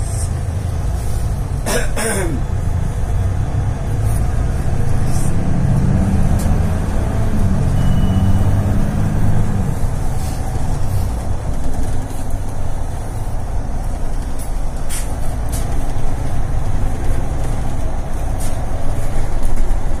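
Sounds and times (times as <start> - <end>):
bus engine drone: 0.0 - 20.0
road and tyre noise: 0.0 - 20.0.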